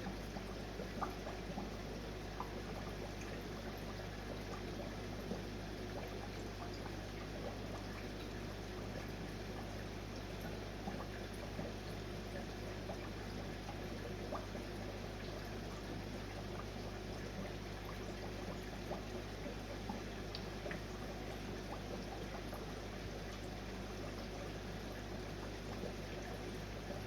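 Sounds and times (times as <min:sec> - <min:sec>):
aquarium filter water trickling: 0:00.0 - 0:27.0
low electrical hum: 0:00.0 - 0:27.0.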